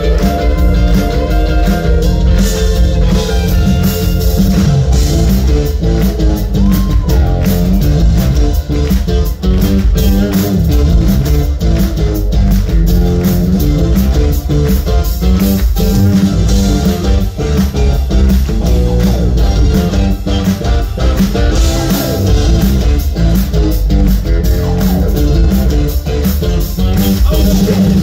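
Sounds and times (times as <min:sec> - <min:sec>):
live rock band playing: 0:00.0 - 0:28.0
steady drum beat: 0:00.0 - 0:28.0.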